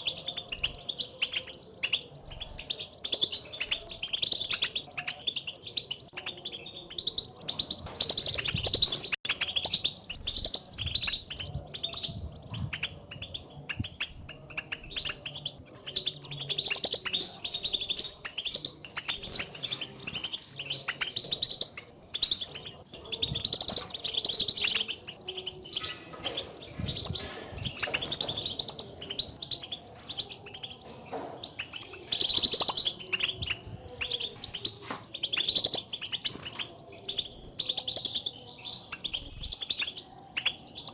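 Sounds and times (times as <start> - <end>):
finches twittering chirps: 0.0 - 40.9.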